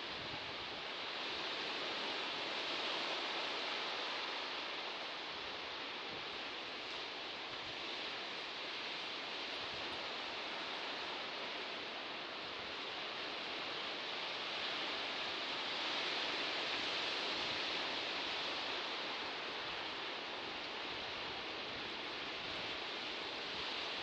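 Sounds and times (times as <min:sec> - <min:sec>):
sea surf washing on shore: 0:00.0 - 0:24.0.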